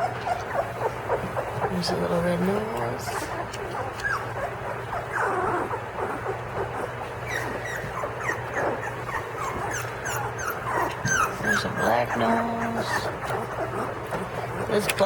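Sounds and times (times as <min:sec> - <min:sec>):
puppies squeaking and whimpering: 0:00.0 - 0:15.0.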